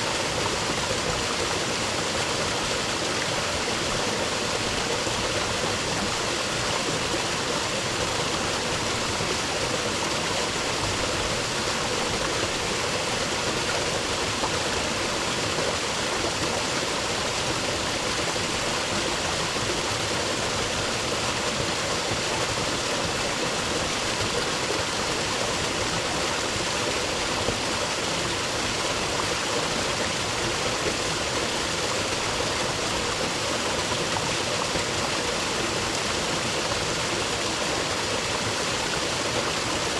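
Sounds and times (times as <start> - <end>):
creek water running over rocks: 0.0 - 39.9.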